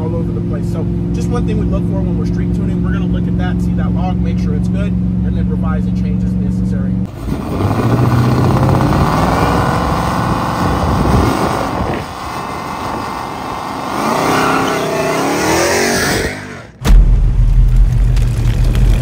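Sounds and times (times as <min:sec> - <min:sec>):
truck engine accelerating: 0:00.0 - 0:19.0.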